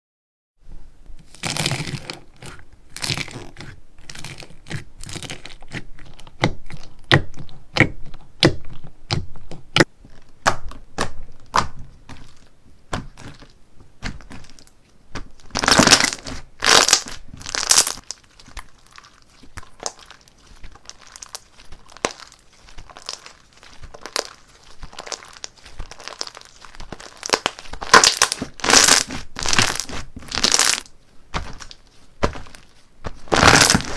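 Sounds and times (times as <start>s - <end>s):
slime crackling and popping: 1.2s - 33.9s
slime crunching: 1.2s - 33.9s.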